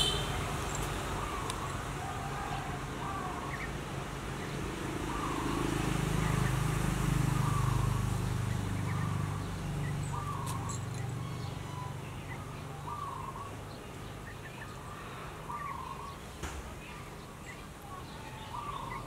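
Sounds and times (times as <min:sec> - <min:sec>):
vehicle engine hum: 0:00.0 - 0:19.0
bird chirping: 0:03.0 - 0:19.0.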